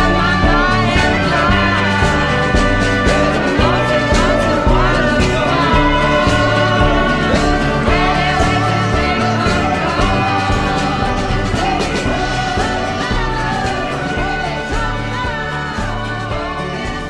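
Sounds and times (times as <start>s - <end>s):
song with singing over a beat: 0.0s - 17.0s.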